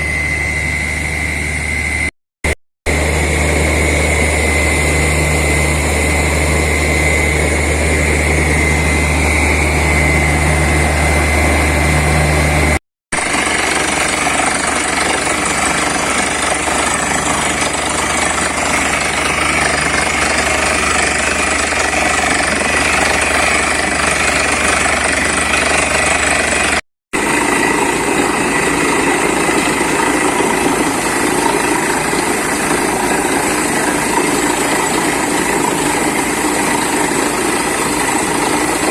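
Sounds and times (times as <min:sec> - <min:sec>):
air compressor running: 0:00.0 - 0:38.9
drilling rig hammering: 0:02.4 - 0:38.9.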